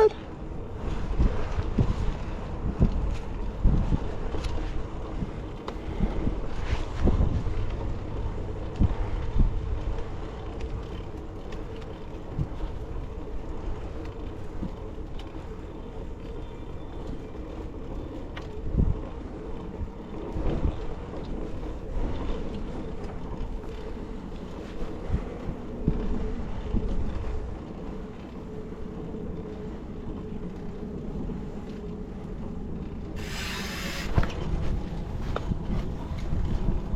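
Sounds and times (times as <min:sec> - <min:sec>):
bicycle tyre rumble: 0:00.0 - 0:36.9
wind on microphone: 0:00.0 - 0:36.9.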